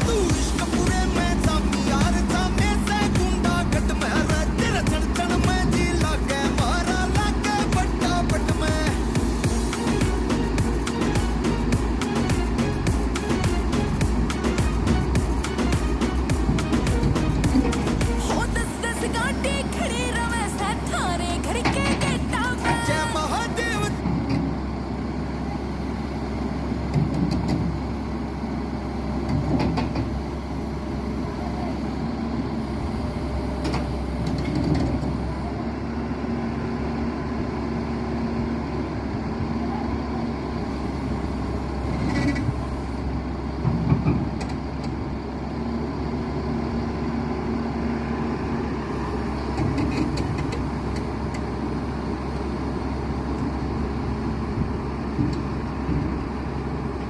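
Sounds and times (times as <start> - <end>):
excavator diesel engine rumble: 0.0 - 57.0.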